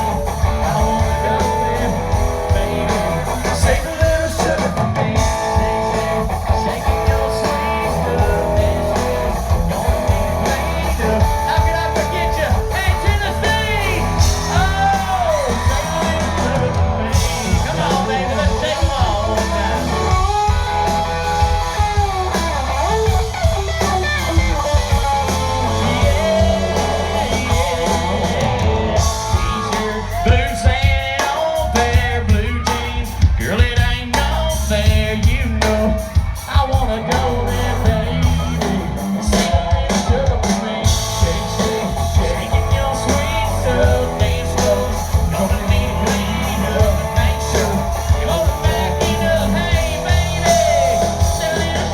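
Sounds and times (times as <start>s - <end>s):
country band playing: 0.0s - 51.9s
man singing: 0.0s - 51.9s.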